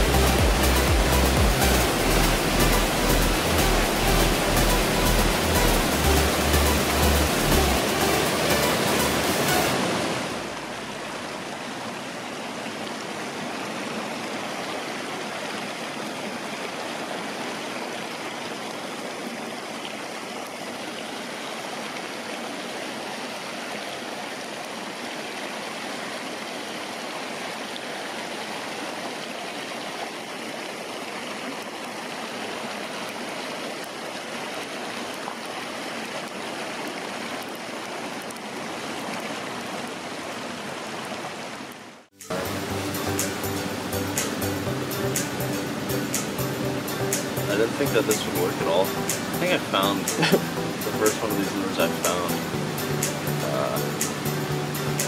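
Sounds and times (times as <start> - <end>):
creek rushing over stones: 0.0 - 55.0.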